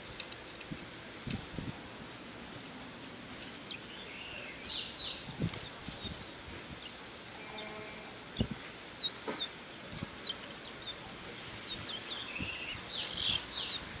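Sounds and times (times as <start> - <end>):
small songbird chirping: 0.1 - 1.7, 3.0 - 14.0.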